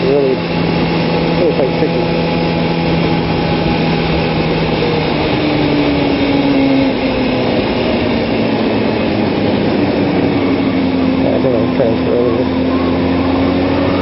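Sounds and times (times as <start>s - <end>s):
heavy wind rush: 0.0s - 14.0s
motorcycle engine at speed: 0.0s - 14.0s.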